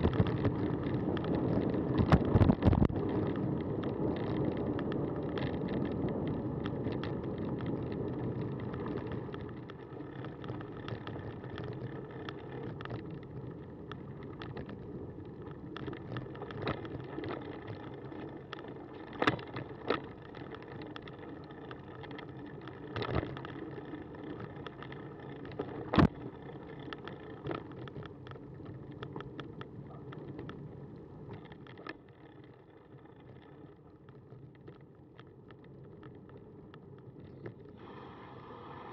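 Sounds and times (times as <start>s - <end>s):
bike rattles and clicks: 0.0s - 37.8s
bicycle tyre rumble on gravel: 0.0s - 38.9s.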